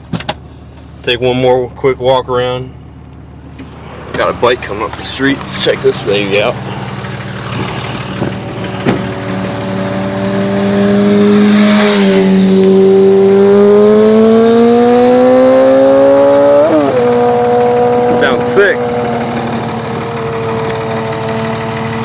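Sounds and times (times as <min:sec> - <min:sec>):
diesel engine revving: 0:02.4 - 0:22.0.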